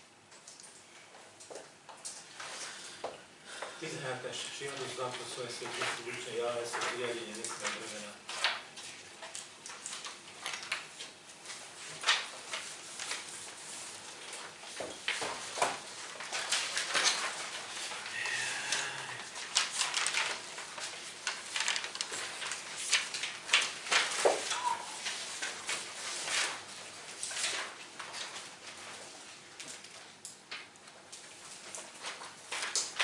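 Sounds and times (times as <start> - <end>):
paper sheets rustling: 4.0 - 33.0
pages being turned: 4.6 - 30.3, 31.1 - 33.0.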